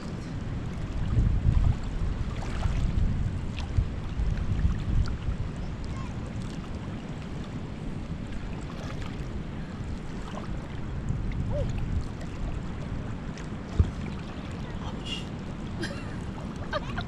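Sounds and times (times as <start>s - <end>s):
faint water sounds: 0.0s - 17.0s
wind rumbling on microphone: 0.0s - 17.0s.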